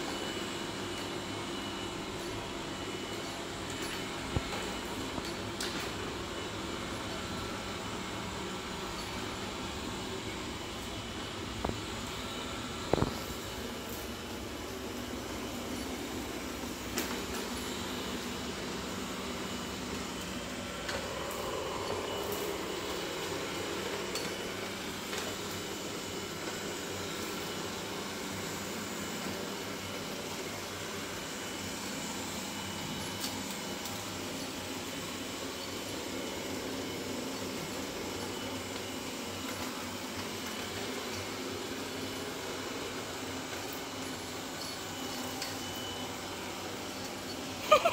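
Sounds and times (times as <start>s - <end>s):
robot vacuum whirring hum: 0.0s - 47.9s.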